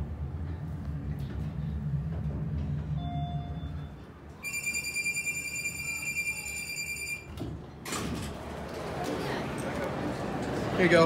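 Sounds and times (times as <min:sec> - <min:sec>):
elevator humming: 0:00.0 - 0:09.1.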